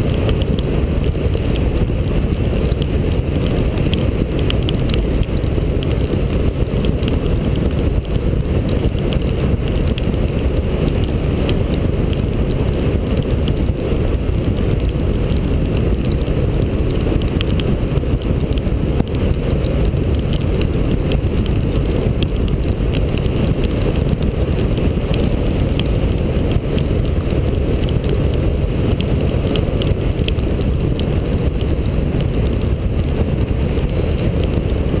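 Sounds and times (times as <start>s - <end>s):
motorcycle engine running: 0.0s - 35.0s
wind rushing on helmet: 0.0s - 35.0s.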